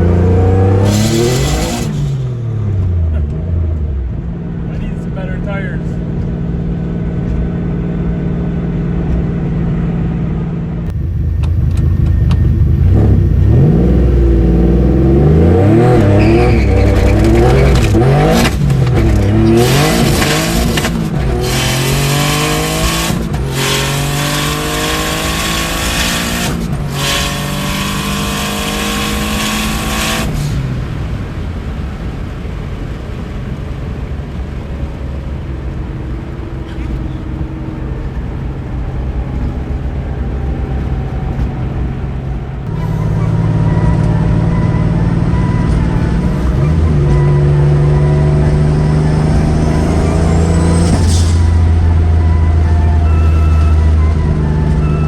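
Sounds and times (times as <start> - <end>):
quick gear upshifts: 0.0 - 30.7, 35.0 - 55.0
car engine revving and accelerating: 0.0 - 32.0, 34.8 - 55.0.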